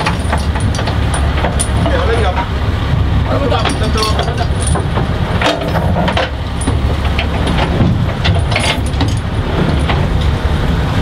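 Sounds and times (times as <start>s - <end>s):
cable and fittings clinking: 0.0s - 2.6s, 3.4s - 10.3s
boat engine running: 0.0s - 11.0s.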